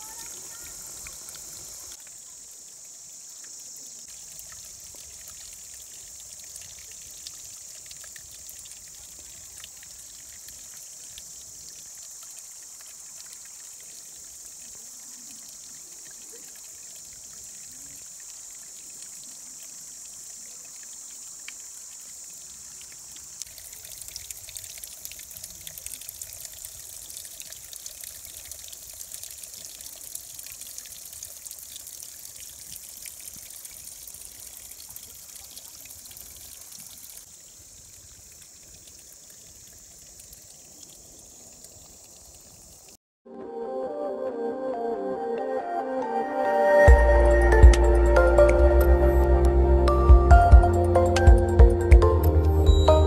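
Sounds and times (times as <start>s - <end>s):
water trickling and dripping: 0.0s - 43.0s.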